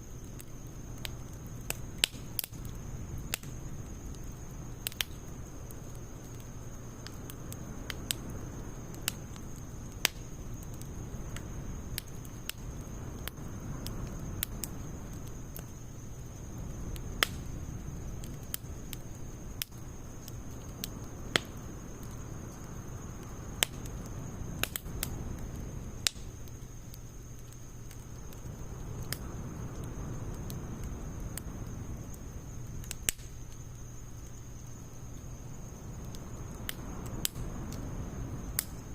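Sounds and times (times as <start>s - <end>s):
fire crackling and popping: 0.0s - 38.9s
rush of flame: 0.0s - 38.9s.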